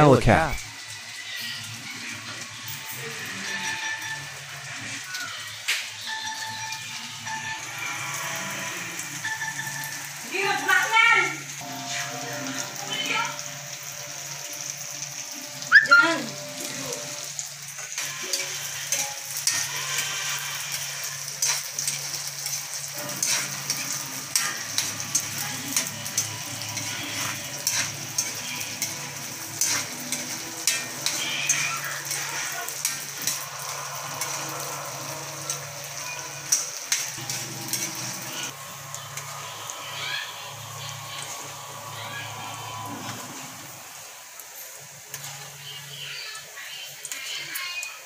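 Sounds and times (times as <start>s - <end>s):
tofu sizzling in hot oil: 0.6s - 48.0s.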